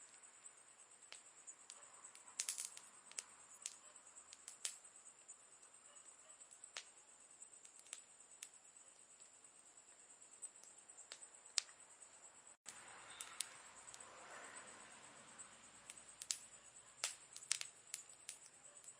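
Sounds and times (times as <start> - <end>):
campfire crackling and popping: 0.0 - 9.4, 10.4 - 11.8, 12.6 - 14.1, 15.8 - 18.9
faint steady high hiss: 0.0 - 18.9.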